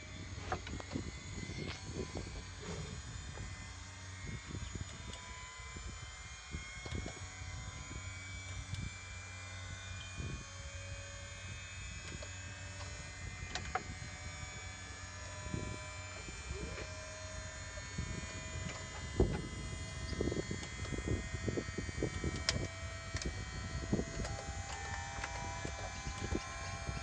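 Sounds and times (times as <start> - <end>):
faint whines rising in pitch: 0.0 - 27.0
steady electrical hum: 0.0 - 27.0.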